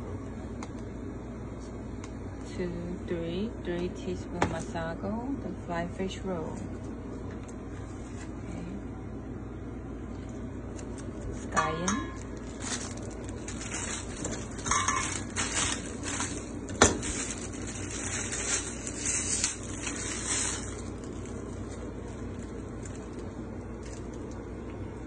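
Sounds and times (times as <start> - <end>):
kitchen hum: 0.0 - 25.0.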